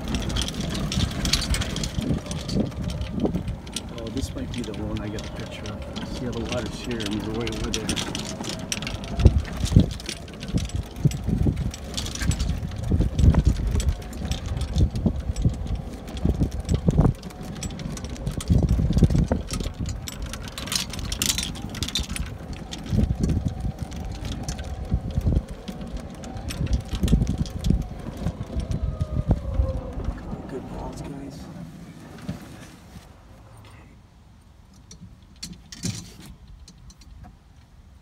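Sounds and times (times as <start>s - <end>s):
wind buffeting microphone: 0.0s - 32.2s.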